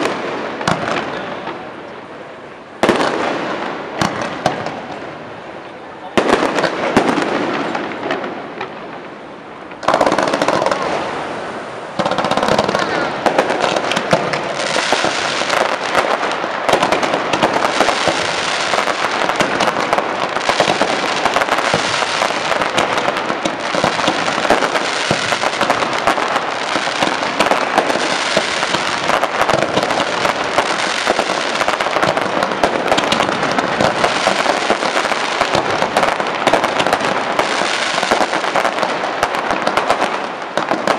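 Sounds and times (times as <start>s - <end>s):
fireworks bangs and crackle: 0.0s - 40.9s.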